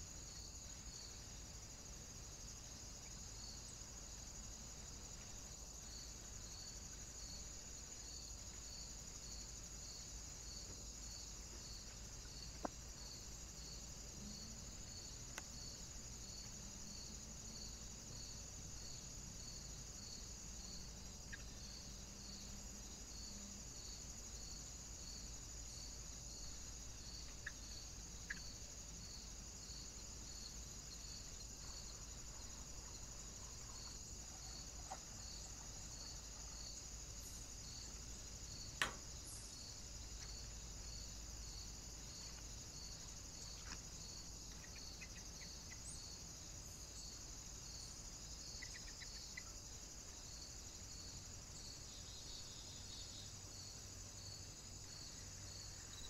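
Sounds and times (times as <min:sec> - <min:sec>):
insect chorus trilling: 0:00.0 - 0:56.0.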